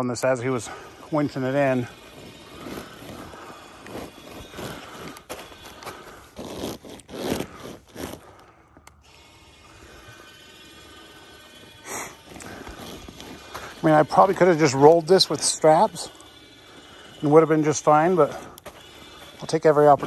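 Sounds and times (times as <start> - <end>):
vinyl scraping and crinkling on tarp: 0.4 - 8.4, 11.6 - 20.0.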